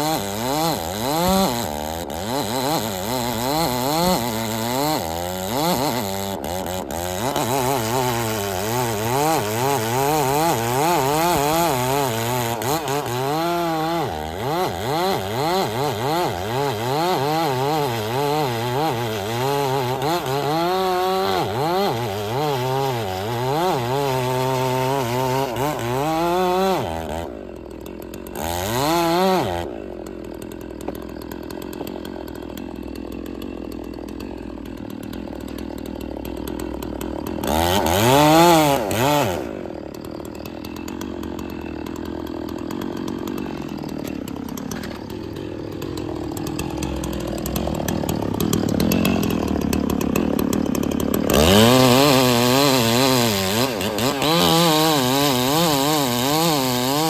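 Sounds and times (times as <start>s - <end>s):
chainsaw cutting into wood: 0.0s - 57.0s
chainsaw idling and revving: 0.0s - 57.0s.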